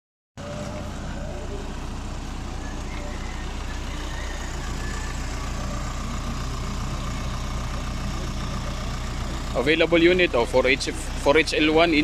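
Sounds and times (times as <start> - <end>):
diesel truck engine idling: 0.4 - 12.0.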